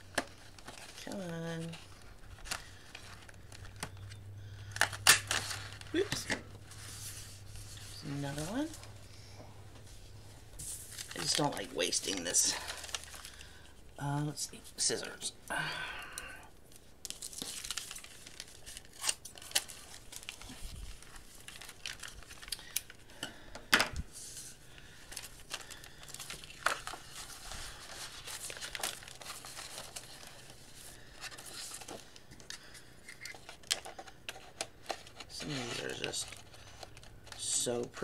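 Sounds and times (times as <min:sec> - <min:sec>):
paper rustling and crinkling: 0:00.0 - 0:09.0, 0:09.8 - 0:13.7, 0:16.7 - 0:23.2, 0:24.1 - 0:38.0.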